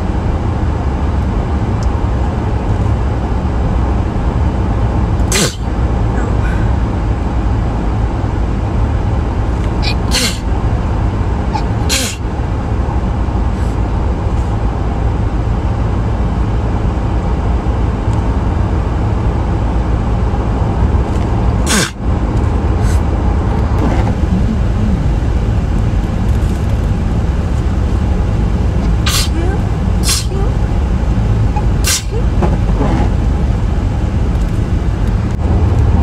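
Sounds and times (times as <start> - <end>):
low rumble of road noise: 0.0 - 36.0.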